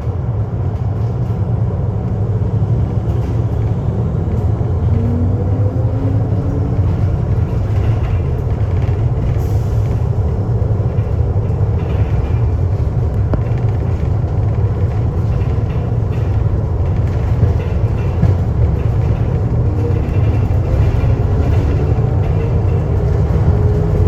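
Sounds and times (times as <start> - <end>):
moving vehicle rumble: 0.0 - 24.0.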